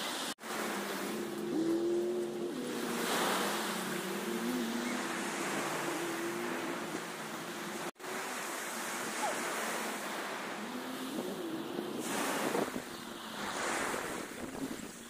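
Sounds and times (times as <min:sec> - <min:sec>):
surf washing onto beach: 0:00.0 - 0:15.0
wind on microphone: 0:00.4 - 0:15.0.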